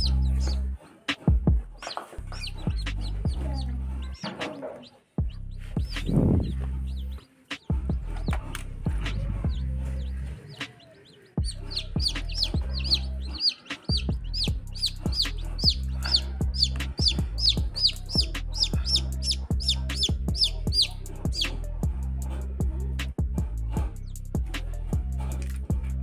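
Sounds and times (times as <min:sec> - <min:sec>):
background music with beat: 0:00.0 - 0:03.6, 0:04.3 - 0:26.0
chicks peeping: 0:00.0 - 0:25.8.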